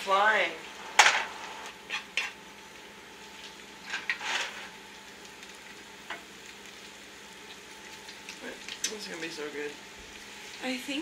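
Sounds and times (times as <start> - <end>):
steak sizzling in frying pan: 0.0 - 11.0.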